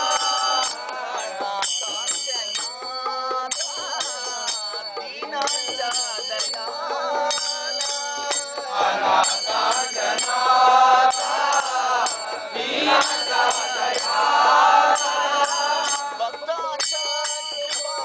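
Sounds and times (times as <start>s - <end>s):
brass hand cymbals clashing: 0.0s - 18.0s
men singing a devotional chant: 0.0s - 18.0s.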